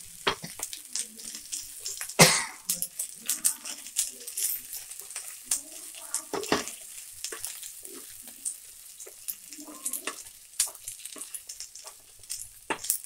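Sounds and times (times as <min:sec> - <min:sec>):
chicken sizzling in oil: 0:00.0 - 0:13.0
spoon clicking against pan: 0:00.2 - 0:13.0.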